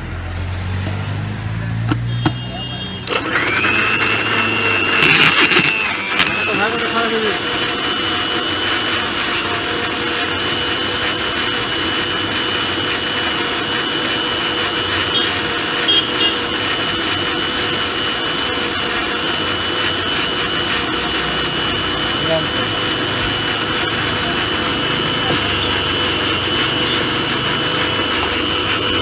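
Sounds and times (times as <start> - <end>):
blender motor whirring: 2.1 - 29.0.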